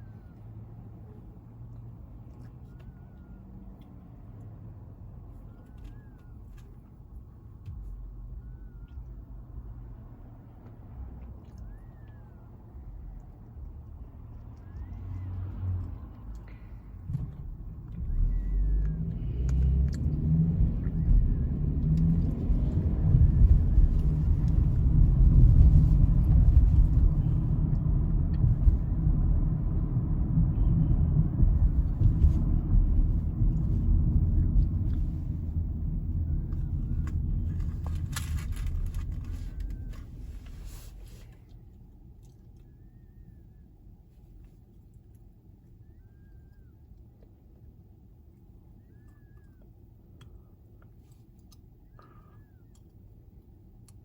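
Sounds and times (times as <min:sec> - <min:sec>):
car tyre and road rumble: 0:00.0 - 0:54.0.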